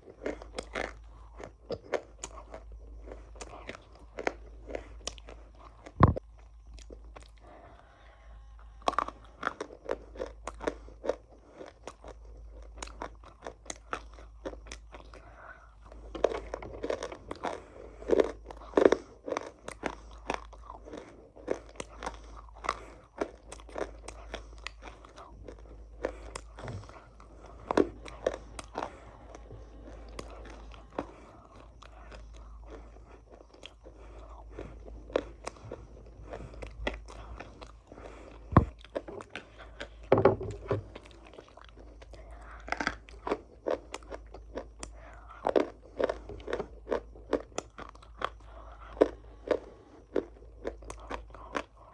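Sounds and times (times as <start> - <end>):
faint low hum: 0.0 - 51.9
person chewing crunchy food: 0.0 - 51.9.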